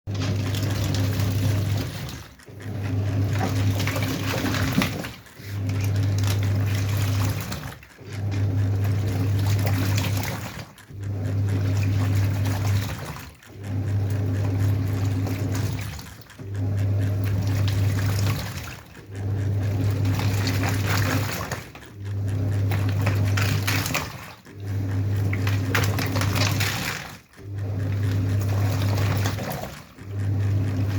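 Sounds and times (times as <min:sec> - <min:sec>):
washing machine motor hum: 0:00.0 - 0:30.9
water churning: 0:00.1 - 0:30.9.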